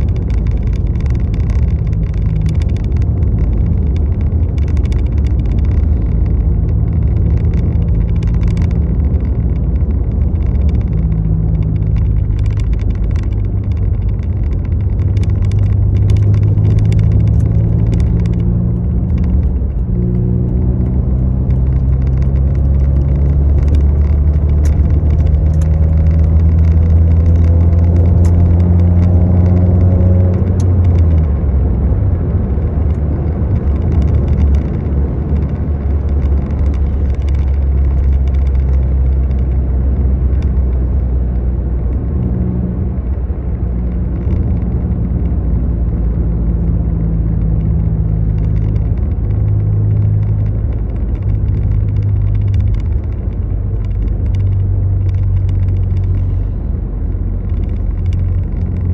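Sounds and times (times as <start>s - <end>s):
car engine droning while driving: 0.0s - 58.9s.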